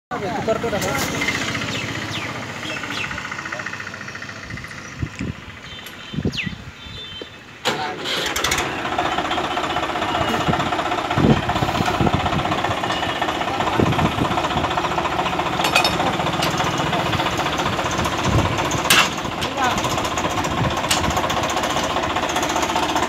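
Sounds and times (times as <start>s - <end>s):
tractor diesel engine running: 0.1s - 23.0s.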